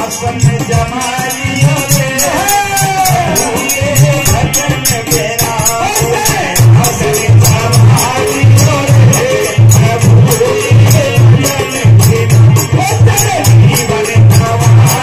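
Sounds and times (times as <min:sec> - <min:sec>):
harmonium: 0:00.0 - 0:15.0
man singing: 0:00.0 - 0:15.0.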